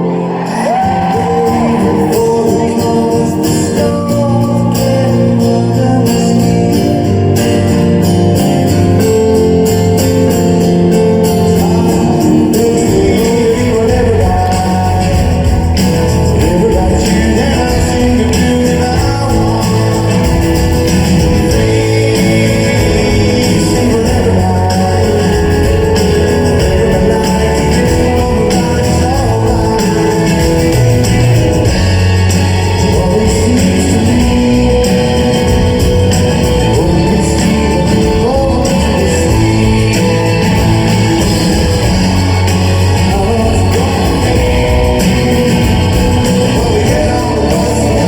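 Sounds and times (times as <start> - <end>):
guitars: 0.0 - 48.0
live rock band: 0.0 - 48.0
person singing: 0.0 - 48.0.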